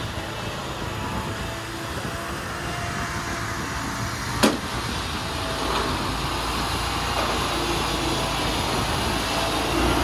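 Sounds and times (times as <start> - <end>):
mower engine running: 0.0 - 10.0.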